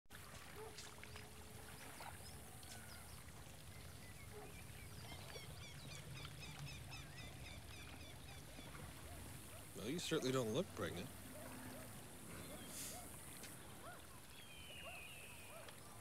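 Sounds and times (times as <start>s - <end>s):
birds chirping: 1.1s - 16.0s.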